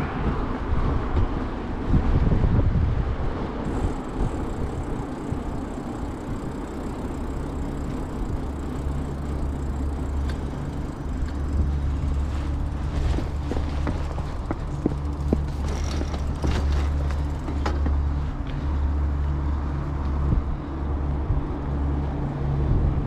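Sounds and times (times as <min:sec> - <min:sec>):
bicycle tyres on pavement: 0:00.0 - 0:23.0
low hum of motor traffic: 0:00.0 - 0:23.0
wind rushing over microphone: 0:00.0 - 0:23.0.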